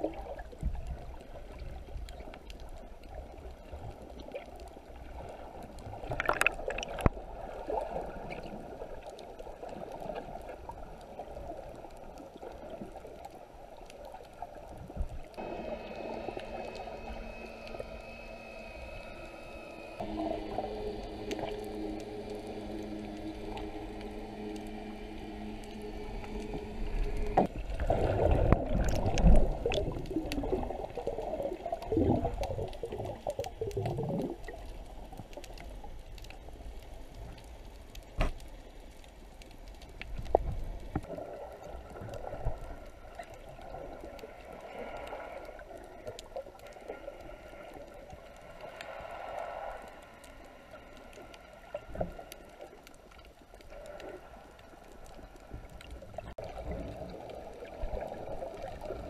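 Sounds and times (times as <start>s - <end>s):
underwater gurgling and bubbling: 0.0s - 38.3s, 39.5s - 59.0s.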